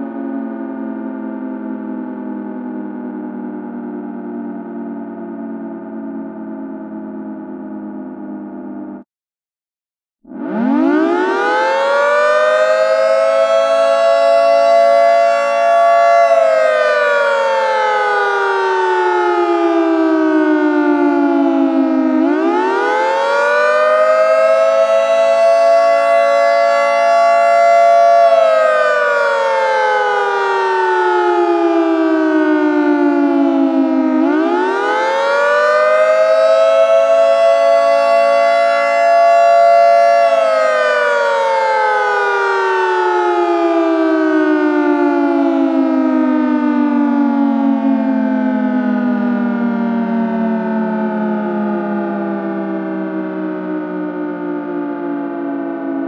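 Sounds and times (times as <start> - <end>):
two-tone siren winding up and down: 0.0 - 9.0, 10.2 - 56.0.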